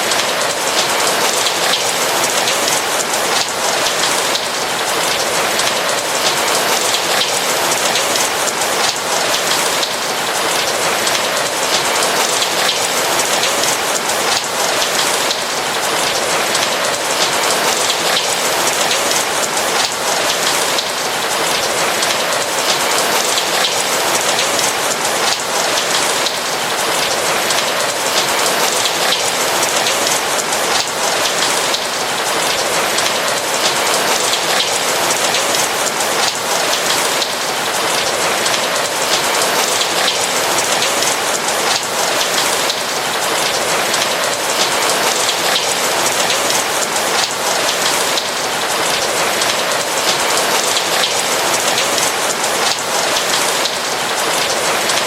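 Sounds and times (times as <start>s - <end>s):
rain pattering on a roof: 0.0s - 55.0s.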